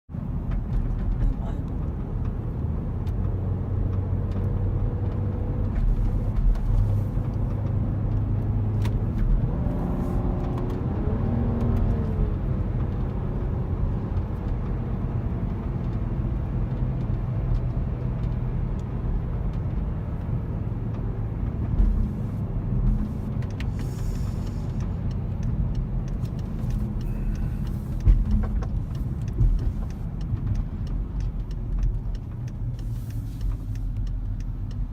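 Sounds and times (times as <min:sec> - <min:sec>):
car engine and road drone: 0:00.1 - 0:34.9.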